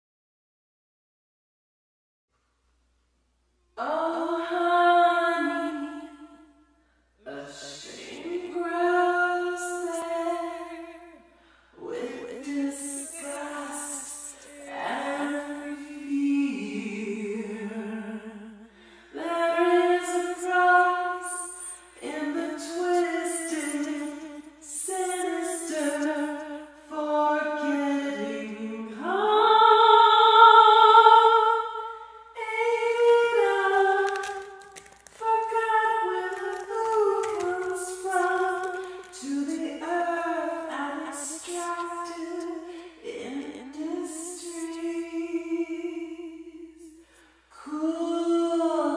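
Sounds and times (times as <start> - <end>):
woman singing unaccompanied: 3.8 - 6.2, 7.2 - 11.2, 11.8 - 18.6, 19.2 - 47.0, 47.6 - 48.9.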